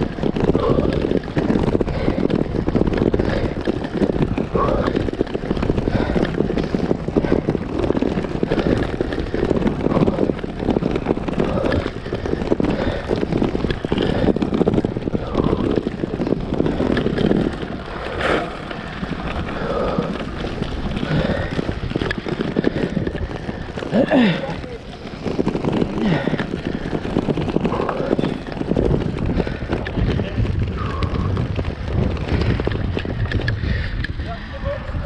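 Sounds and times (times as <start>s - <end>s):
bike rattling over cobblestones: 0.0s - 35.0s
wind buffeting microphone: 0.0s - 35.0s.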